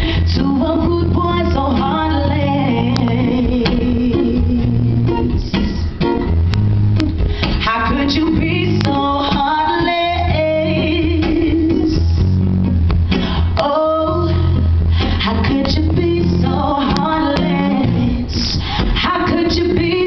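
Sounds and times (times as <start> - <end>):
woman singing: 0.0 - 6.0, 7.4 - 12.2, 13.4 - 20.0
bass guitar: 0.0 - 20.0
guitar: 0.0 - 20.0.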